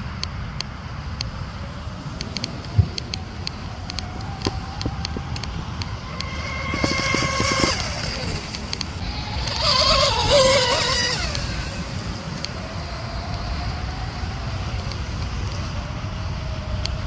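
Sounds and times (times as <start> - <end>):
road traffic rumble: 0.0 - 17.0
rc boat motors whining: 1.4 - 17.0.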